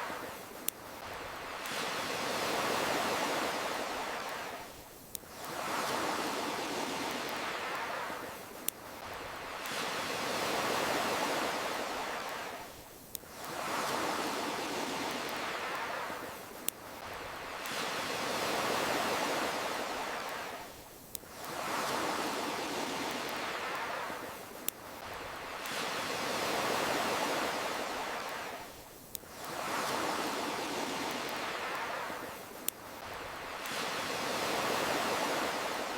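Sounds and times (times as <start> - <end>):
campfire crackling and popping: 0.0 - 14.3, 14.9 - 35.3
ocean waves surging: 0.0 - 35.9.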